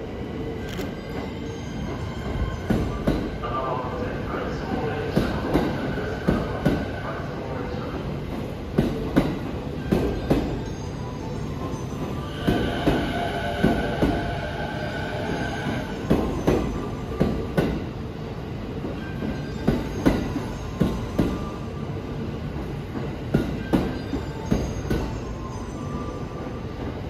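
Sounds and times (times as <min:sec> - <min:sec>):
train rumble: 0:00.0 - 0:27.0.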